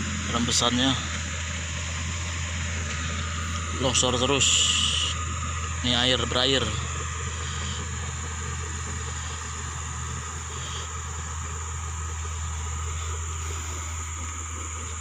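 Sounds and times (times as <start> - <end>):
bulldozer diesel engine droning: 0.0 - 15.0.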